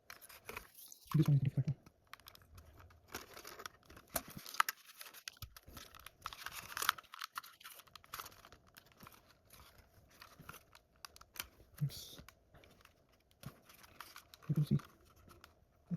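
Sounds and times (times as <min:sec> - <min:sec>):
plastic parts clicking and scraping: 0:00.0 - 0:15.9.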